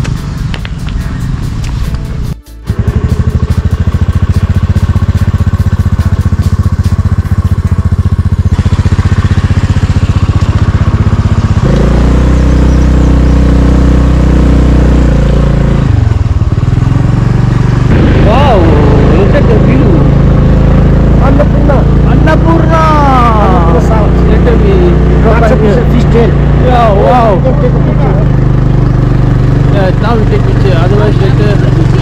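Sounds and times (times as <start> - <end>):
scooter engine under load: 0.0 - 32.0.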